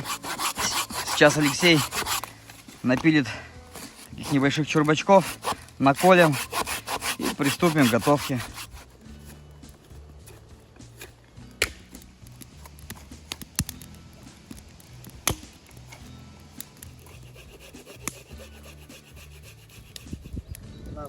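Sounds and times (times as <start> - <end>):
wood rubbing and scraping: 0.0 - 11.3, 14.2 - 20.6
background music with bass: 0.0 - 21.0.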